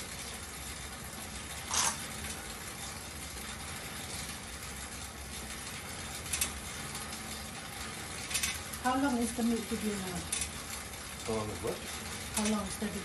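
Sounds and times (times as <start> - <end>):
exercise bike fan whoosh: 0.0 - 13.0.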